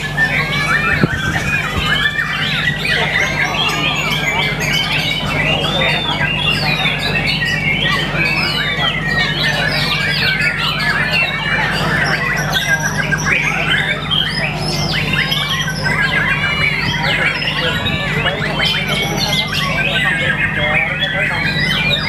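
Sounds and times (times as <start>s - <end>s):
songbird whistling song: 0.0s - 22.0s
steady low hum: 0.0s - 22.0s.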